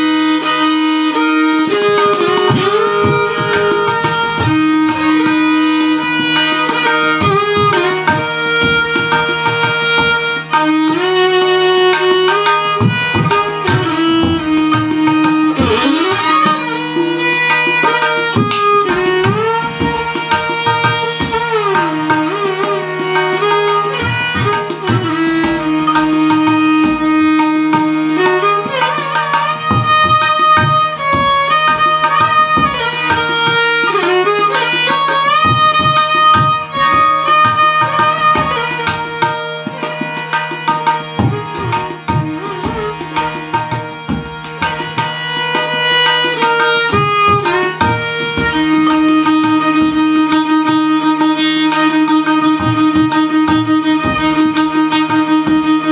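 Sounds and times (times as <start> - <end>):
steady drone: 0.0 - 51.2
tabla: 0.0 - 55.9
violin melody with sliding notes: 0.0 - 55.9.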